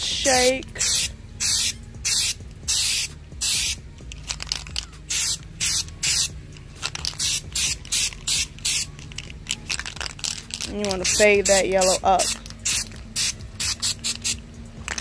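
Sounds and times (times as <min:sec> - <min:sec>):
aerosol spray can hissing: 0:00.3 - 0:14.5.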